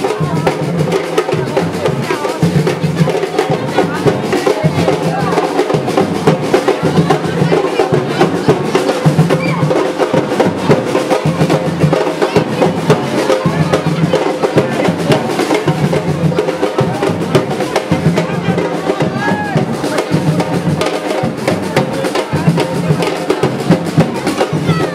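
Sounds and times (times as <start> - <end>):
deep drum beat: 0.0 - 24.9
fast drum rattle: 0.0 - 24.9.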